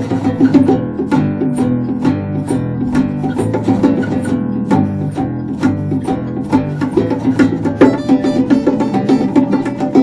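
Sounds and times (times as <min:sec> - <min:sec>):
bass guitar: 0:00.0 - 0:10.0
hand percussion beat: 0:00.0 - 0:10.0
strummed acoustic guitar: 0:00.0 - 0:10.0.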